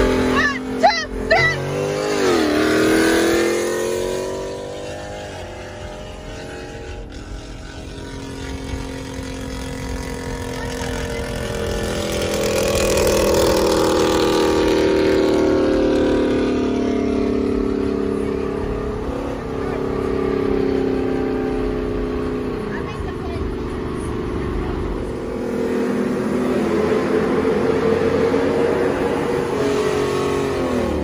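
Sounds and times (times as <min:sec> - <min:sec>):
car engine running hard: 0:00.0 - 0:31.0.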